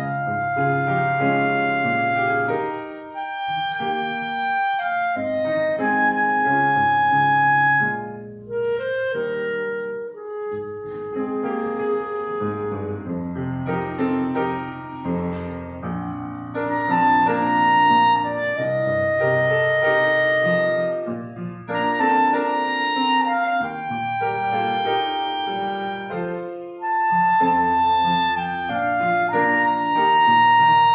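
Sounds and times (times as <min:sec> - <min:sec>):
clarinet-like melody: 0:00.0 - 0:30.9
held keyboard chords: 0:00.0 - 0:30.9.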